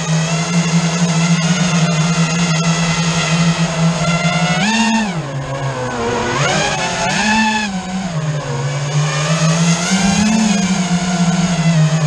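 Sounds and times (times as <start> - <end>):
motor whining: 0.0 - 12.0.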